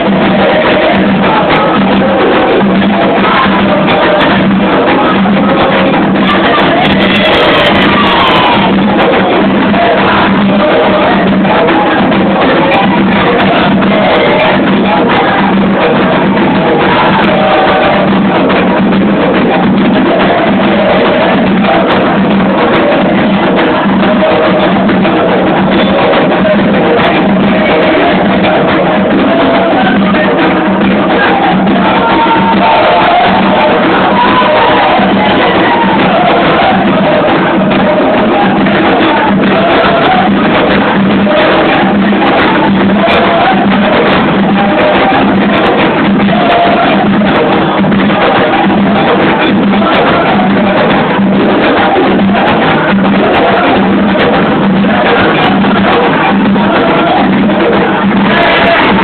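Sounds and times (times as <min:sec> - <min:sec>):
hand drums playing rhythm: 0:00.0 - 0:59.0
voices singing: 0:00.0 - 0:59.0.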